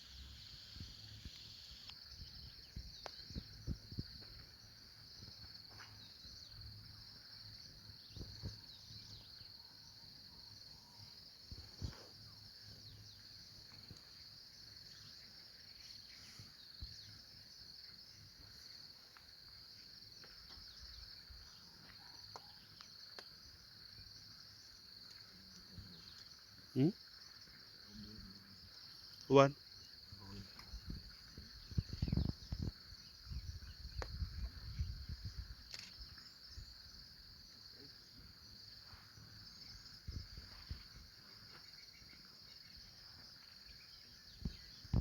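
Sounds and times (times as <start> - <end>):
crickets shrilling: 0.0 - 45.0.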